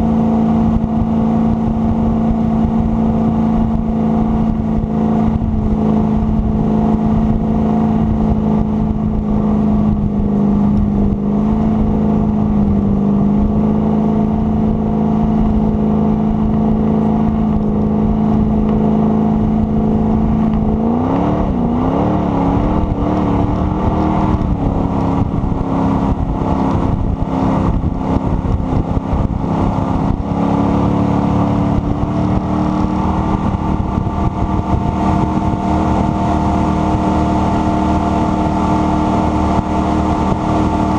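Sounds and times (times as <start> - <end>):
boat engine running: 0.0 - 40.9
water rushing: 0.0 - 40.9.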